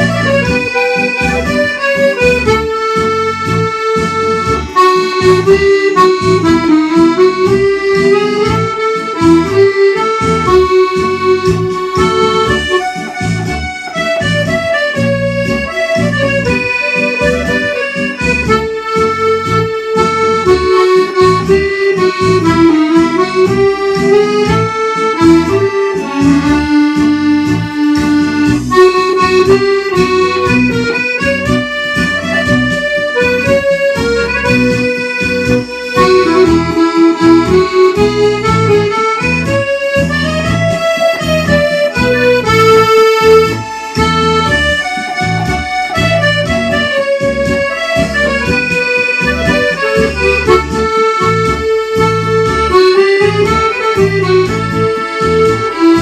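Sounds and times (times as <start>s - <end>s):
accordion playing a waltz: 0.0s - 56.0s.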